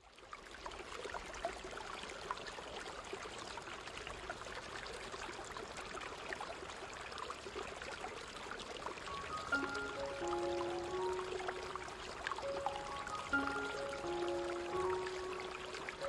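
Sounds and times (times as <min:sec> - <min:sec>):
water trickling into pool: 0:00.0 - 0:16.0.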